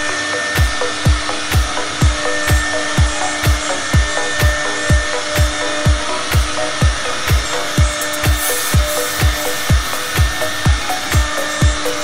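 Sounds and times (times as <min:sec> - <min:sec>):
electronic music with kick drum: 0:00.0 - 0:12.0
router spindle cutting board: 0:00.0 - 0:12.0.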